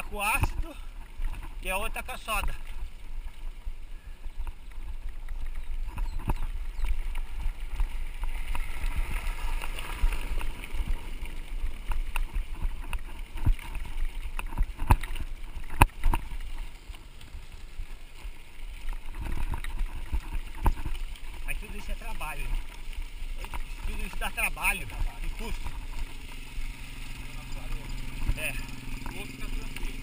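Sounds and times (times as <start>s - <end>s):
bike tyres on gravel road: 0.0s - 30.0s
car passing on gravel: 0.0s - 30.0s
bike rattling over bumps: 4.5s - 30.0s.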